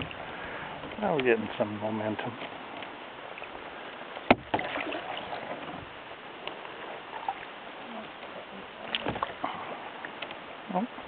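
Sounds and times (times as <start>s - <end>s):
paddle swishing and dripping: 0.0s - 11.0s.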